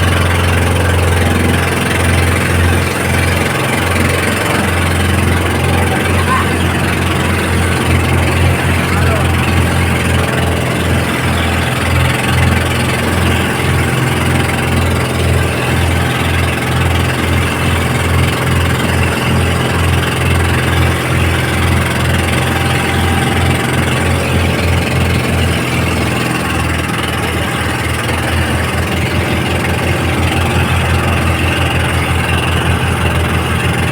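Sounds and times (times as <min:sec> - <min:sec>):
engine running with throbbing drone: 0:00.0 - 0:33.9.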